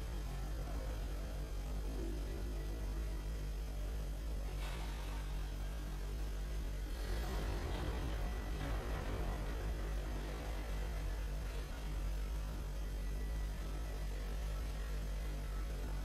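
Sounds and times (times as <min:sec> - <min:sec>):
amplifier electrical hum: 0:00.0 - 0:16.0.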